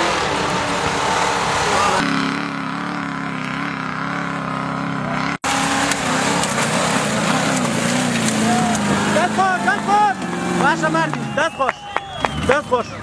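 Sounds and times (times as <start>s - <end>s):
gritty noise of tyres on dirt: 0.0s - 13.0s
off-road vehicle engine under load: 0.0s - 13.0s.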